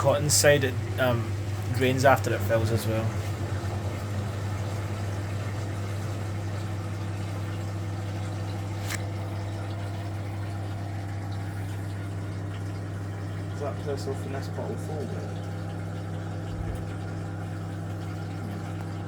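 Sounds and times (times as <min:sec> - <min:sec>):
washing machine drain pump humming: 0:00.0 - 0:19.0.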